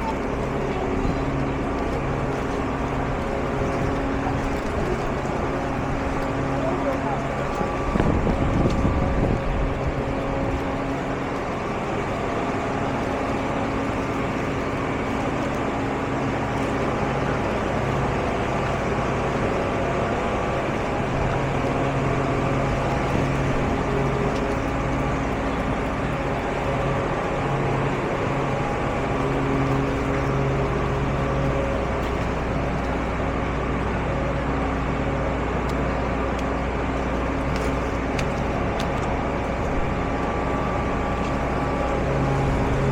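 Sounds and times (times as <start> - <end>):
constant noise haze: 0.0 - 42.9
vehicle engine humming: 0.0 - 42.9.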